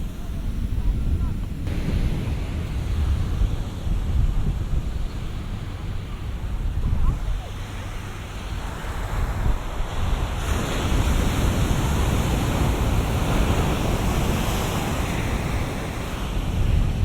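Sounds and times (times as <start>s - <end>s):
ocean waves breaking: 0.0s - 17.0s
wind rumbling on microphone: 0.0s - 17.0s.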